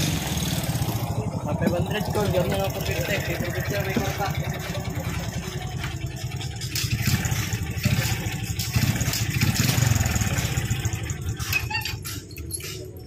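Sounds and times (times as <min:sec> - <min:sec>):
engine running with low pulse: 0:00.0 - 0:13.0.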